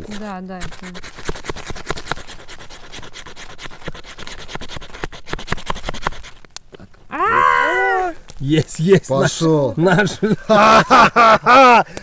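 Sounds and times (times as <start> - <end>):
striker scraping fire-starter rod: 0.0 - 7.2, 8.0 - 12.0.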